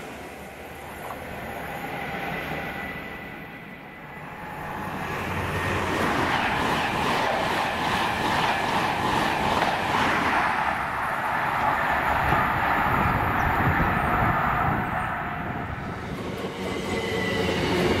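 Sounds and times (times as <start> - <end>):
train wheels rushing on rail: 0.0 - 18.0.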